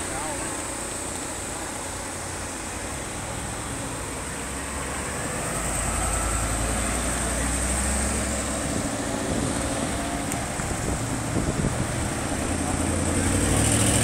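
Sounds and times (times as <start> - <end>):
heavy cars driving past: 0.0 - 14.0.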